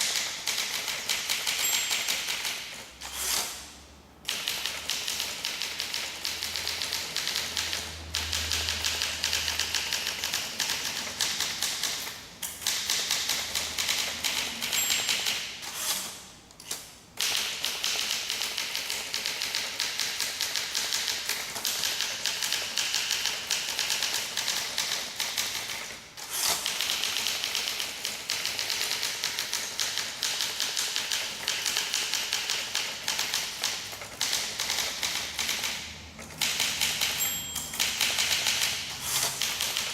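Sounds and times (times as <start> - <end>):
typewriter keys clacking: 0.0 - 3.5, 4.3 - 39.9.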